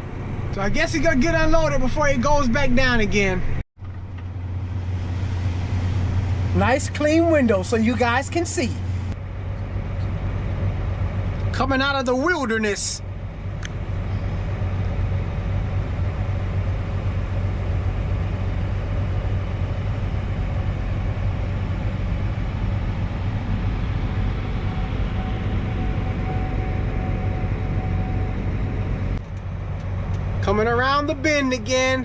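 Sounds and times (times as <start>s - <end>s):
faint steady whine: 0.0s - 32.0s
tractor engine drone: 0.0s - 32.0s.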